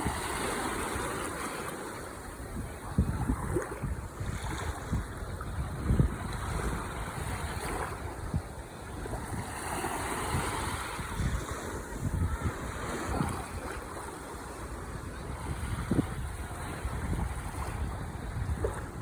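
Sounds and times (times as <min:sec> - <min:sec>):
ocean waves washing ashore: 0:00.0 - 0:19.0
wind buffeting microphone: 0:00.0 - 0:19.0.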